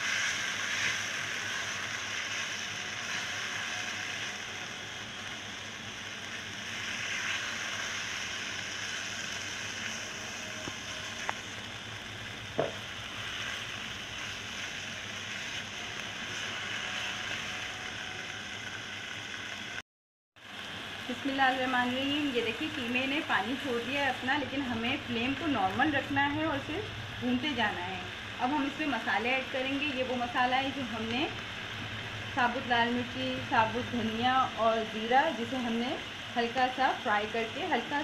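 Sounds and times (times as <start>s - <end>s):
meat sizzling in oil: 0.0s - 19.8s, 20.4s - 38.0s.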